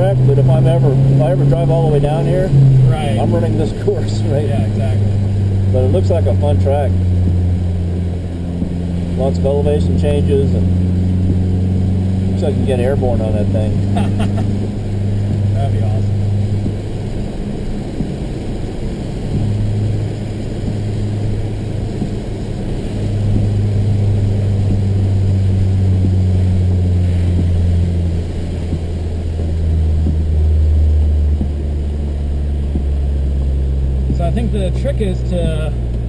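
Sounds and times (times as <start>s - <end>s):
car engine droning inside cabin: 0.0s - 36.0s.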